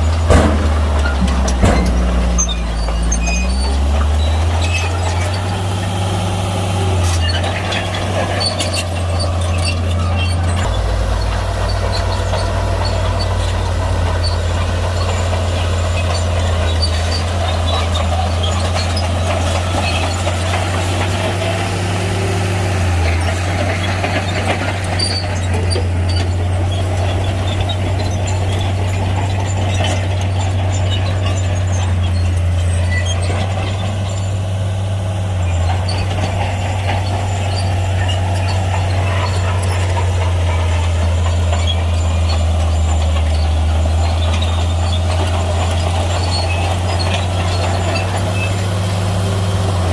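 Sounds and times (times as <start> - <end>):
bulldozer diesel engine: 0.0 - 49.9
clanks and squeaks: 0.0 - 49.9.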